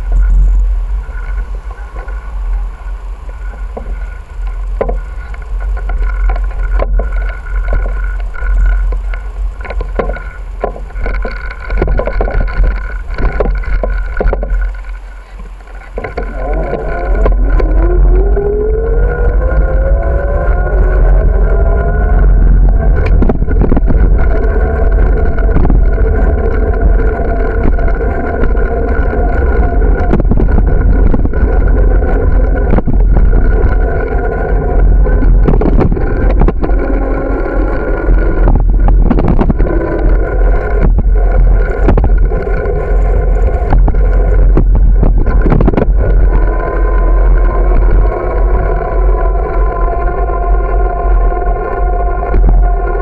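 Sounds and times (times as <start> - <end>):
bicycle road noise: 0.0 - 53.0
bicycle whirring tone: 0.0 - 53.0
wind buffeting microphone: 0.0 - 53.0
knocks and rattles: 3.2 - 49.7.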